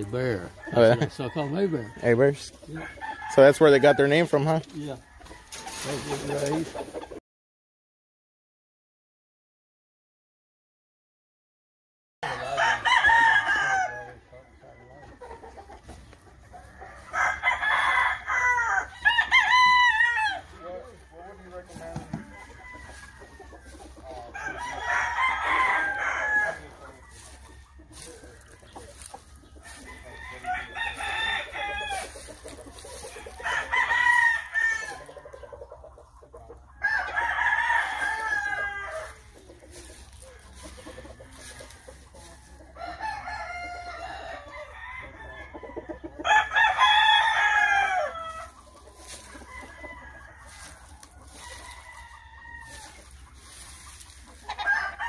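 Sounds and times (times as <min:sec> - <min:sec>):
roosters crowing: 0:00.0 - 0:07.2, 0:12.2 - 0:55.0.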